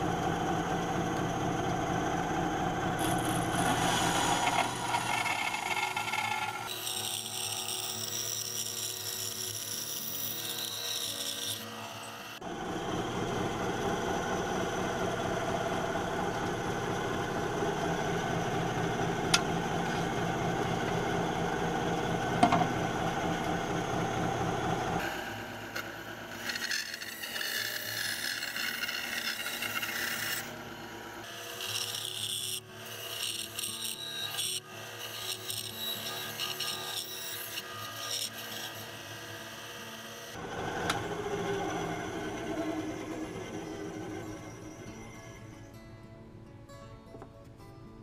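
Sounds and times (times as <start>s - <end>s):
band saw cutting wood: 0.0s - 45.6s.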